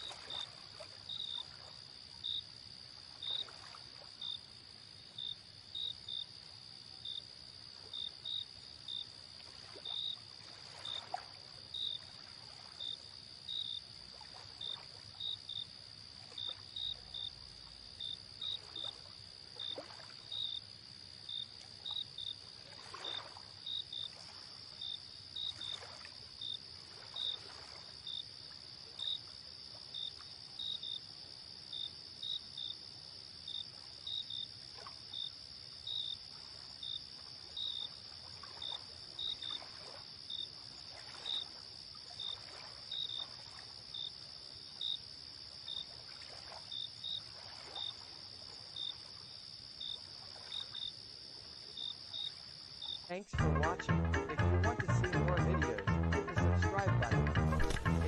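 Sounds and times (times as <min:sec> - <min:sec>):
small waves lapping: 0:00.0 - 0:04.7, 0:07.5 - 0:30.4, 0:33.7 - 0:52.9
crickets chirping: 0:00.0 - 0:53.3
insect drone: 0:00.0 - 0:53.3.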